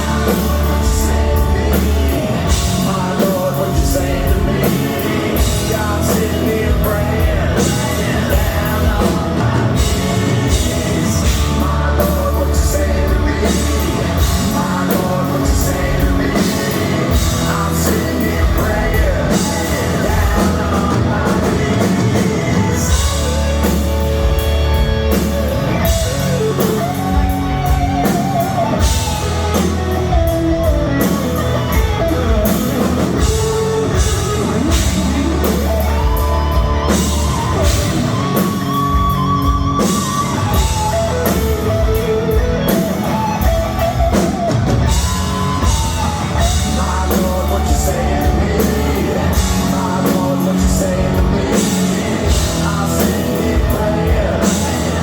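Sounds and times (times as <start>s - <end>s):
bass guitar: 0.0s - 55.0s
drum kit: 0.0s - 55.0s
lead electric guitar: 0.0s - 55.0s.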